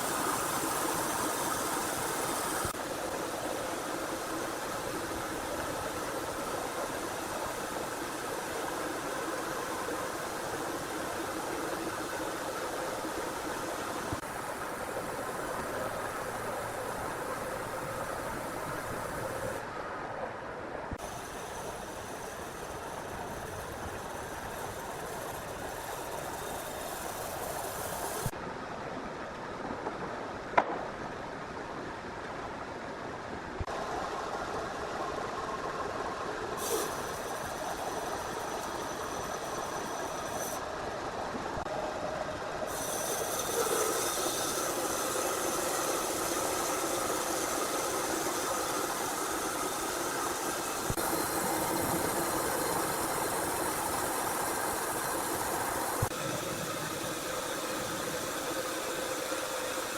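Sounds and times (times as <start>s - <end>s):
sawmill machinery running: 0.0s - 19.6s, 21.0s - 28.3s, 33.7s - 40.6s, 41.7s - 59.9s.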